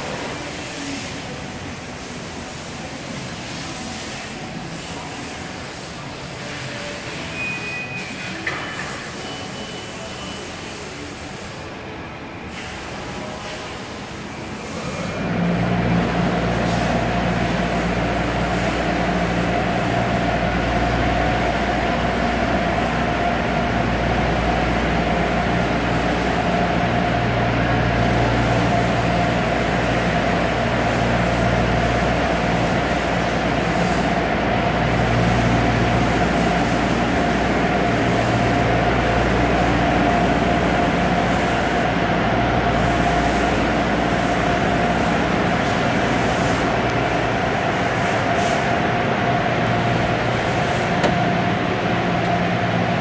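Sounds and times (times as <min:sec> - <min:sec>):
steady mechanical drone: 0:10.0 - 0:53.0.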